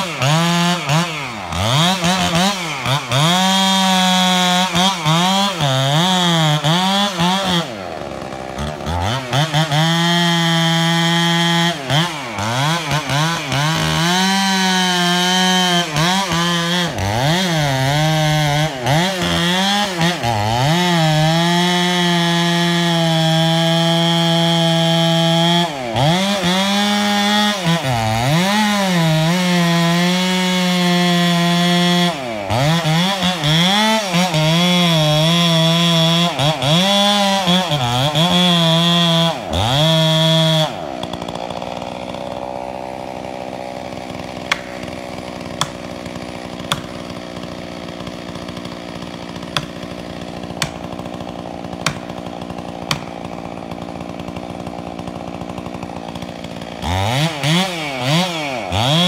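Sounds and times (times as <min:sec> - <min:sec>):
chainsaw cutting tree trunk: 0:00.0 - 0:59.0.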